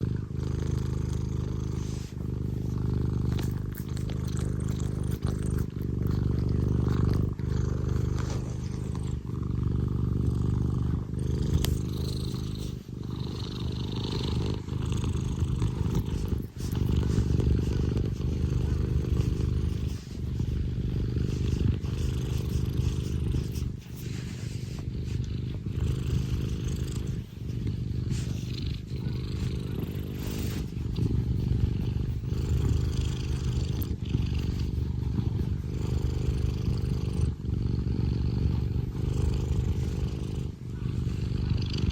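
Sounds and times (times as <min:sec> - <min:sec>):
cat purring loudly: 0:00.0 - 0:41.9.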